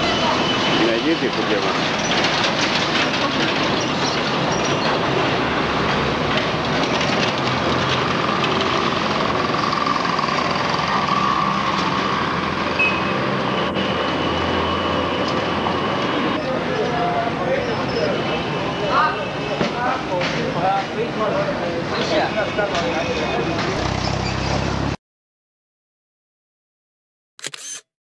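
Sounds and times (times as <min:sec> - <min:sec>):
tyres on road: 0:00.0 - 0:25.0.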